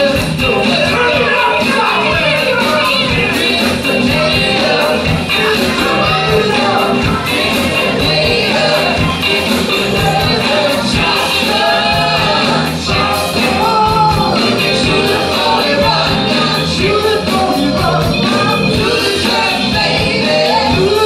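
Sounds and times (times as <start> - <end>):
lead vocals singing: 0.0 - 21.0
soul band playing: 0.0 - 21.0.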